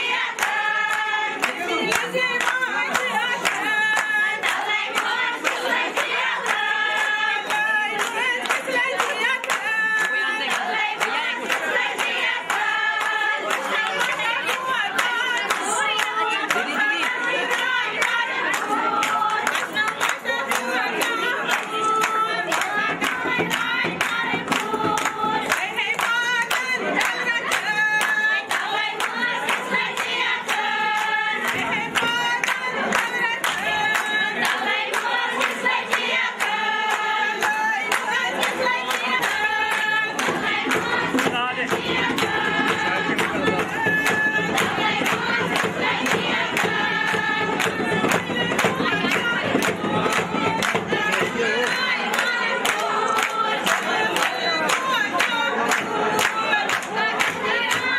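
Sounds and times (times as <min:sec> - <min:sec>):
rhythmic hand-clapping: 0:00.0 - 0:57.9
women singing together: 0:00.0 - 0:57.9.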